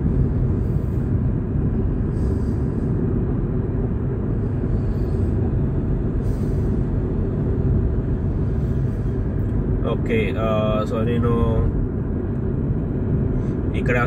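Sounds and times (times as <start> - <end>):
car cabin engine and road noise: 0.0 - 14.0.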